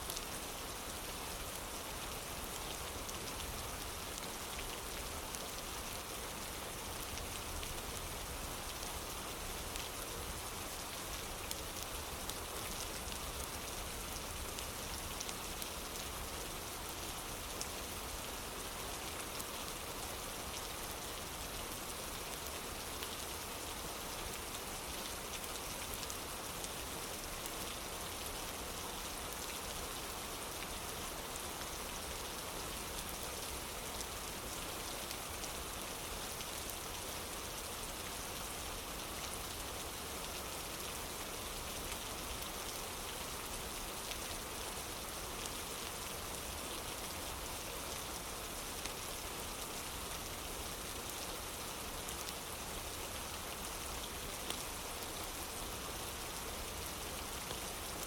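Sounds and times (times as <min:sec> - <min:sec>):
rain on a wooden porch: 0:00.0 - 0:58.0.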